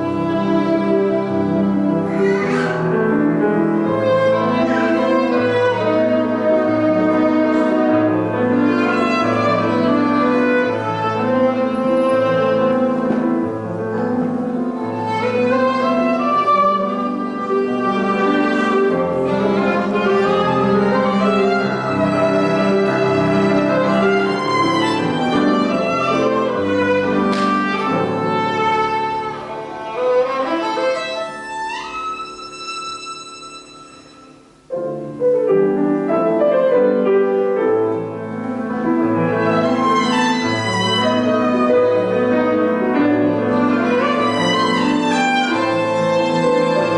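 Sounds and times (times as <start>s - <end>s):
piano accompaniment: 0.0s - 46.9s
solo violin: 0.0s - 46.9s.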